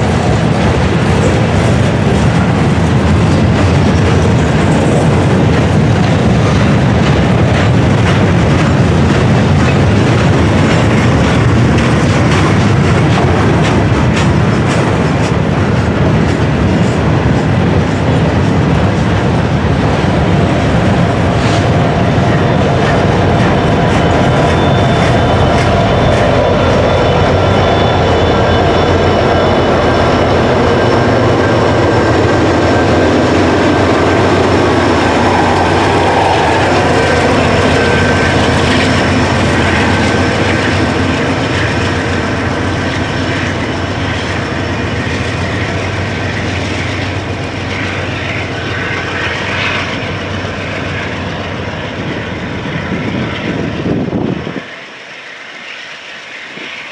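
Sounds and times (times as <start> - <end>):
diesel locomotive engines: 0.0 - 56.9
train wheel and rail noise: 0.0 - 56.9.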